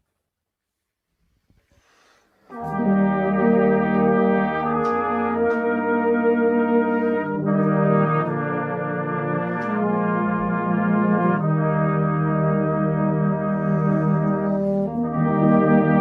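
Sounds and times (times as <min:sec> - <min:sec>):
brass band playing slow chords: 0:02.5 - 0:16.0.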